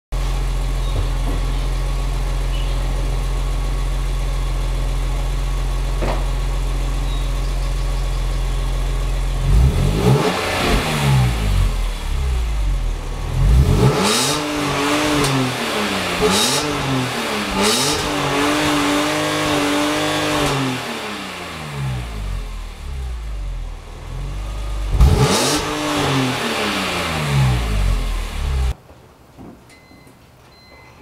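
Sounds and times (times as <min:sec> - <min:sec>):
car engine idling and revving: 0:00.2 - 0:28.8.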